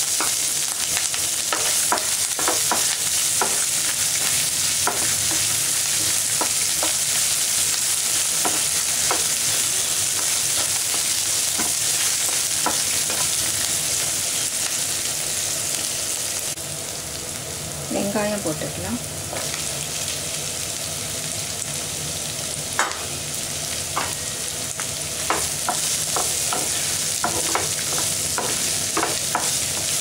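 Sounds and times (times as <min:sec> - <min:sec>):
spices sizzling in hot oil: 0:00.0 - 0:30.0.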